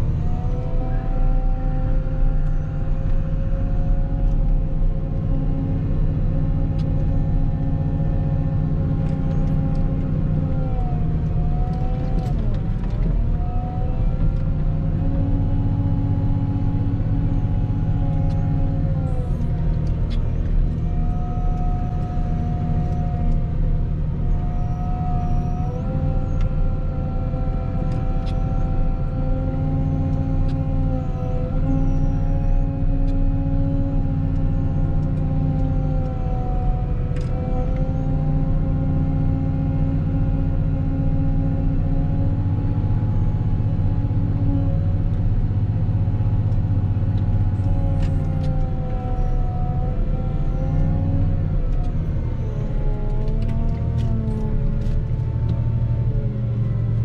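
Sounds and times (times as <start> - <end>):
wheel loader engine drone: 0.0 - 57.0.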